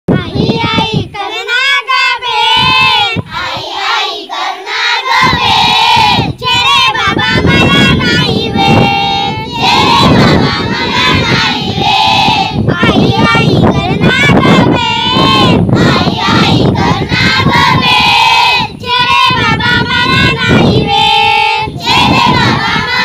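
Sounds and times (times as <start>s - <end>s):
children singing in unison: 0.1s - 23.0s.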